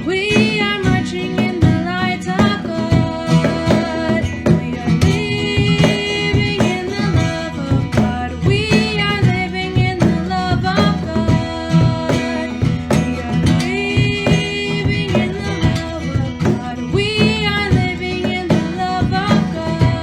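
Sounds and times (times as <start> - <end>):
guitar accompaniment: 0.0 - 20.0
person singing: 0.0 - 20.0.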